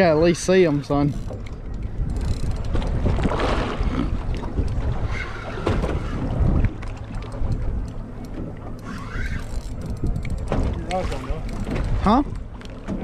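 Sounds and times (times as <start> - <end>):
fishing boat noise: 0.0 - 13.0
wind buffeting microphone: 0.0 - 13.0.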